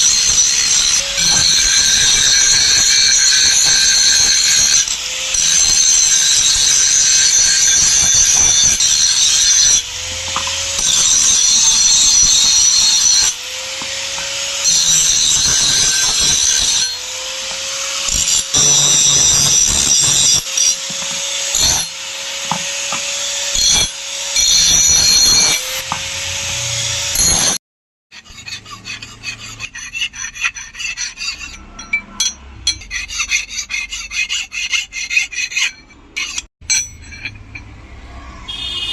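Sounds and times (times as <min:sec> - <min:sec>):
power grinder grinding metal: 0:00.0 - 0:36.5.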